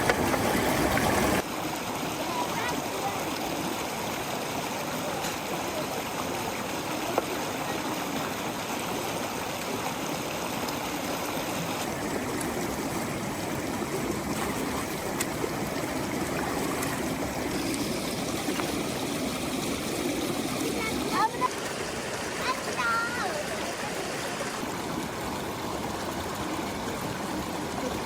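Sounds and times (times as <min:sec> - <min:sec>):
water running and dripping: 0:00.0 - 0:28.0.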